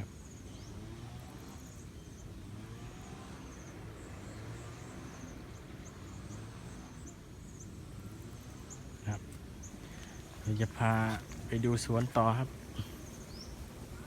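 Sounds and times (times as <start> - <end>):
faint insect chirps: 0.0 - 14.0
low rushing outdoor noise: 0.0 - 14.0.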